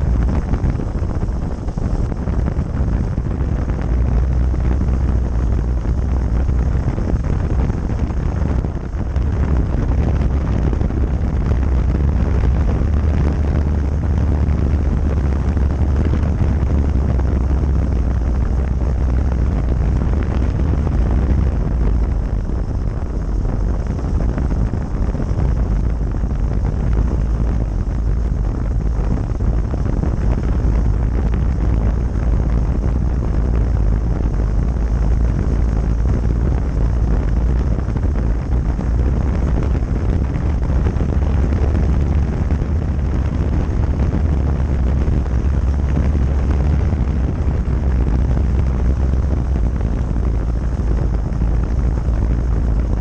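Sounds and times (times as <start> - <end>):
motorcycle road and engine noise: 0.0 - 53.0
wind rumble on microphone: 0.0 - 53.0.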